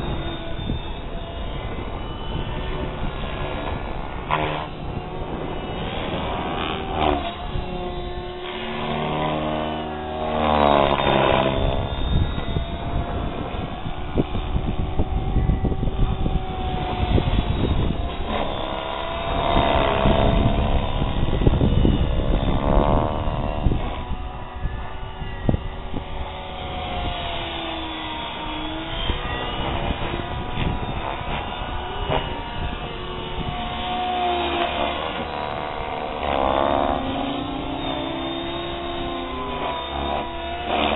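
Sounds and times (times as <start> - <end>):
rc helicopter whining and whooshing: 0.0 - 40.9.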